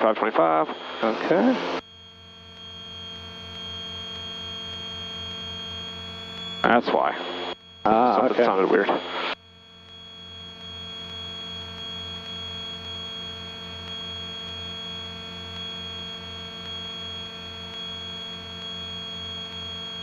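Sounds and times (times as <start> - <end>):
high steady whine: 0.0 - 20.0.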